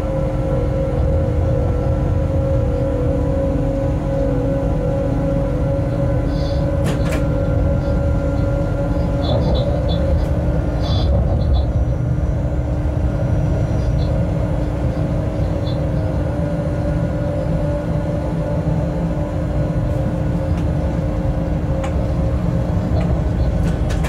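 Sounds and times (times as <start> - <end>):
steady hum tones: 0.0 - 24.0
train low rumble: 0.0 - 24.0.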